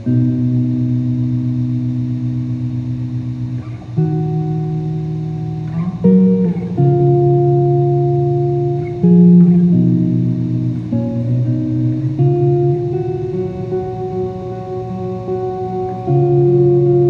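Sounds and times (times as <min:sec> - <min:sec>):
guitar playing chords: 0:00.0 - 0:17.0.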